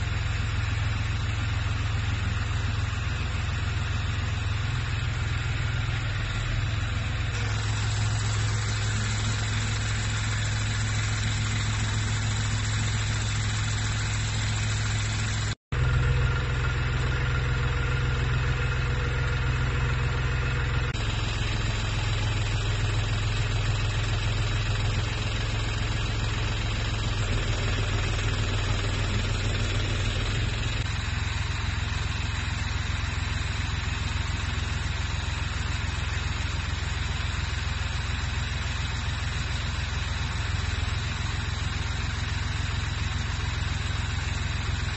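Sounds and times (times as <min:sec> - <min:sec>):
excavator engine idling: 0:00.0 - 0:44.9.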